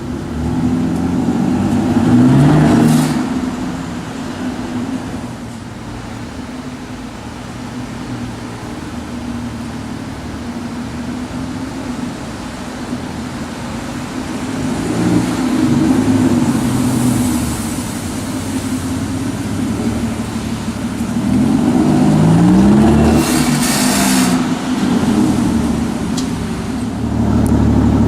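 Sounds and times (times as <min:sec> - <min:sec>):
car engine revving: 0:00.0 - 0:28.0
rush of noise: 0:00.0 - 0:28.0.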